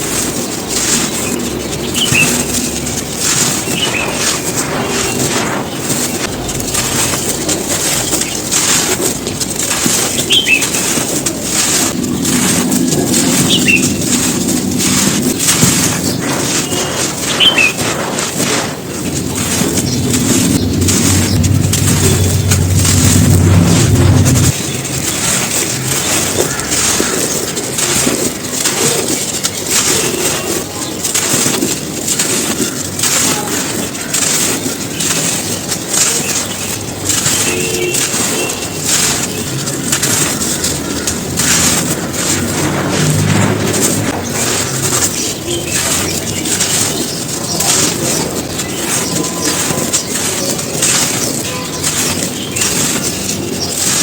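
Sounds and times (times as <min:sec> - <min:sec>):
crispy cones crunching: 0:00.0 - 0:54.0
bird chirp: 0:00.4 - 0:18.0, 0:18.9 - 0:31.3, 0:34.0 - 0:41.6, 0:43.6 - 0:54.0.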